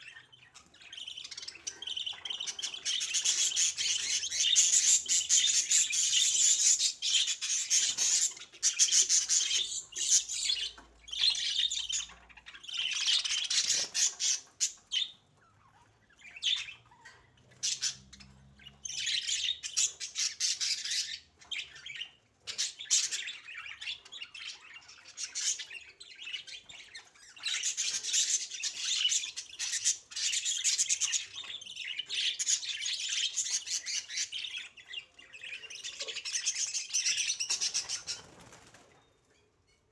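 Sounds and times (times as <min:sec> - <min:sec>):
budgerigars chattering and warbling: 0:00.0 - 0:39.5.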